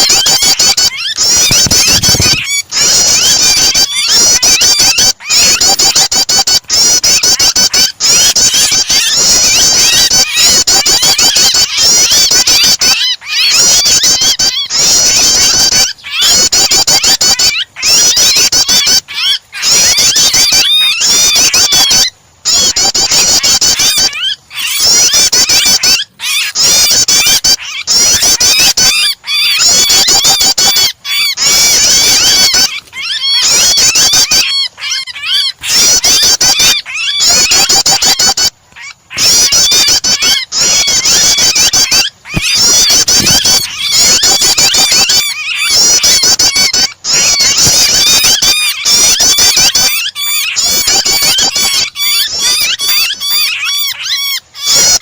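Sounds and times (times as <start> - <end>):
bird distress cries: 0.0 - 55.0
rapid high bird chirping: 0.0 - 55.0.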